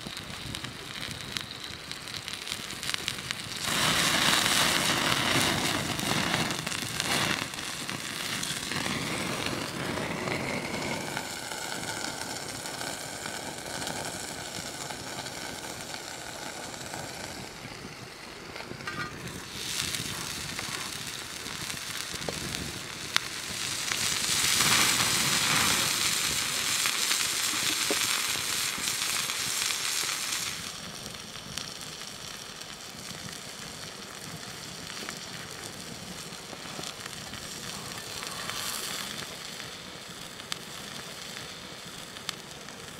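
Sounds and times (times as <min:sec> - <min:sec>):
burger patty sizzling: 0:00.0 - 0:42.9
fire crackling and popping: 0:00.0 - 0:42.9.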